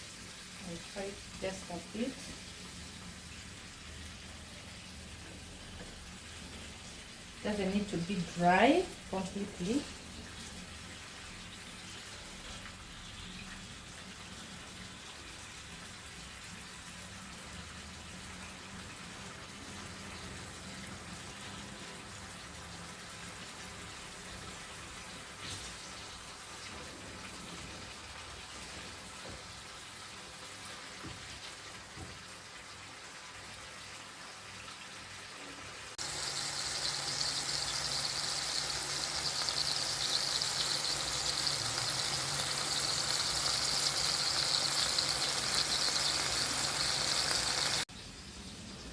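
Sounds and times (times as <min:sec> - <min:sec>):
chicken livers sizzling in pan: 0:00.0 - 0:48.9.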